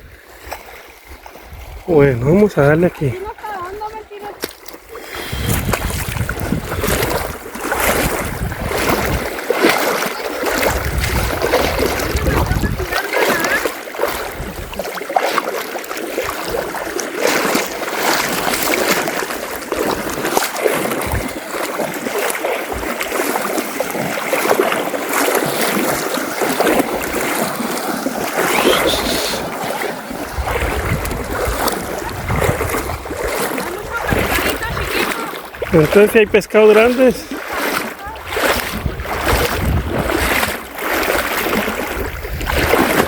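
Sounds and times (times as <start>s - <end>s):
people wading splashes: 0.0s - 43.0s
river water rushing: 2.4s - 43.0s.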